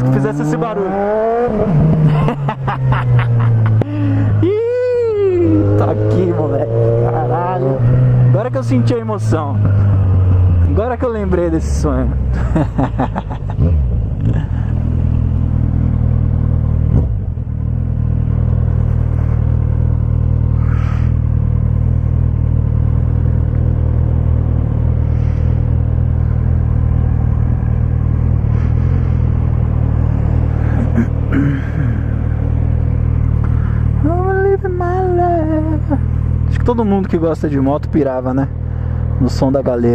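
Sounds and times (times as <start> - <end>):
loud motorcycle engine exhaust: 0.0 - 12.7, 13.5 - 34.6.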